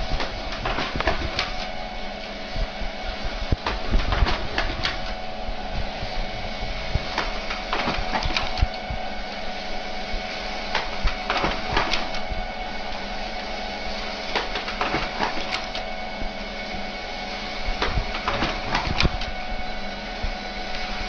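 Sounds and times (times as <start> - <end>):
printer mechanism whirring and clicking: 0.0 - 21.0.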